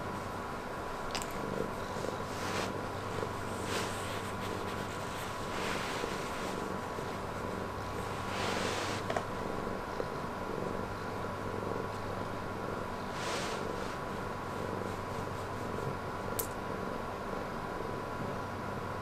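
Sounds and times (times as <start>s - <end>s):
cat purring: 1.1s - 19.0s.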